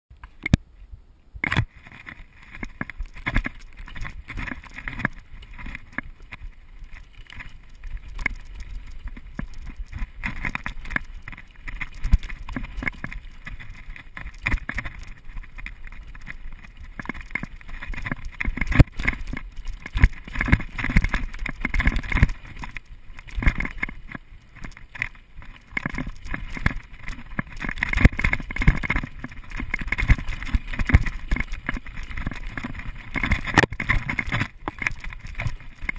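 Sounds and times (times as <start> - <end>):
bike tyres rumbling on dirt: 1.4 - 35.9.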